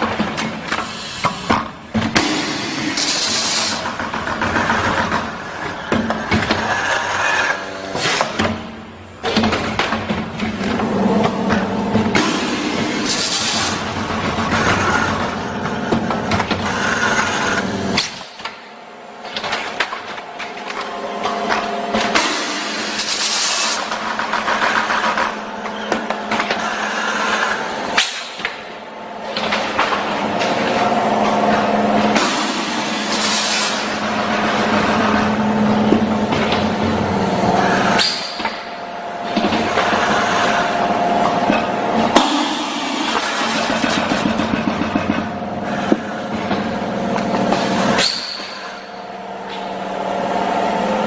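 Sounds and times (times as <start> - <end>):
packing machine humming: 0.0 - 51.0.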